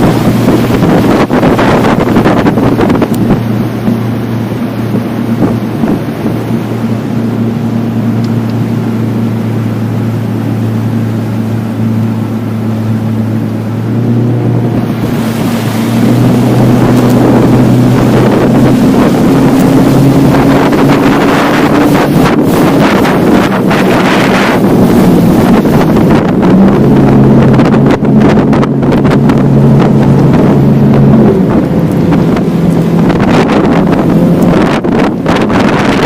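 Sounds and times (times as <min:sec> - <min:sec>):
motorboat engine running: 0:00.0 - 0:36.0
water rushing: 0:00.0 - 0:36.0
wind rushing: 0:00.0 - 0:36.0.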